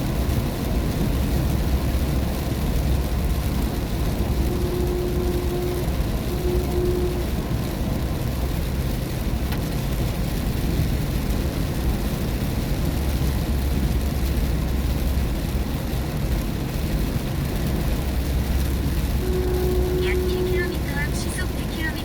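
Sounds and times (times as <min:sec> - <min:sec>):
low road rumble: 0:00.0 - 0:22.0
rain against car: 0:00.0 - 0:22.0
tyres hissing on wet road: 0:00.0 - 0:22.0.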